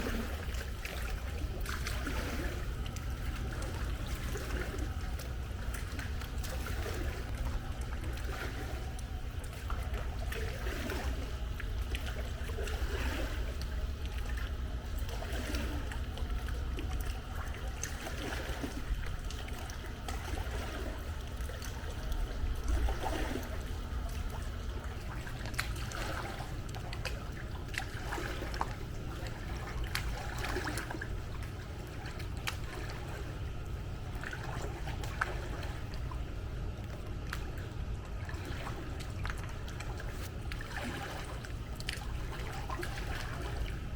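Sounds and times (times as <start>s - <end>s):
pool water sloshing and trickling: 0.0s - 43.9s
small water splashes: 0.0s - 43.9s.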